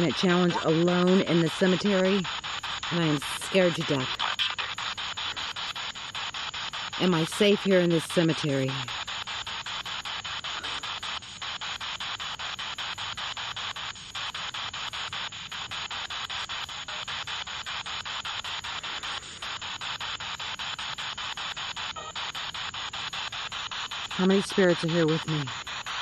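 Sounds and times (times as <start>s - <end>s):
radio static sweeping stations: 0.0s - 26.0s
radio voice fragments: 0.0s - 26.0s.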